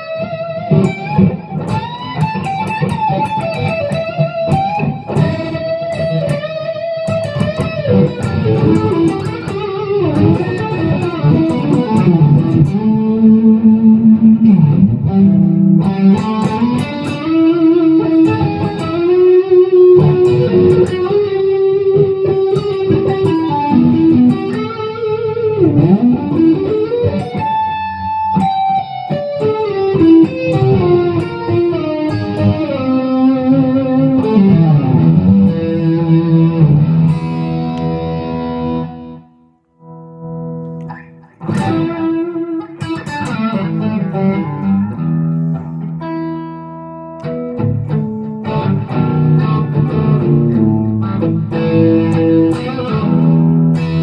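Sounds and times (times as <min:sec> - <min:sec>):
electric guitar lead lines: 0:00.0 - 0:54.0.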